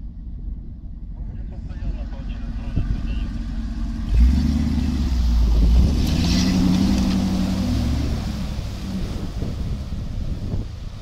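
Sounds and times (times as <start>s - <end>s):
car engine running under load: 0.0s - 11.0s
water rushing and splashing: 1.5s - 11.0s.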